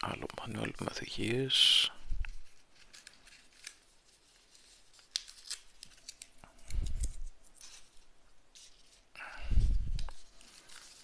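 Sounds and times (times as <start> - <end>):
paper rustling: 2.1 - 11.0.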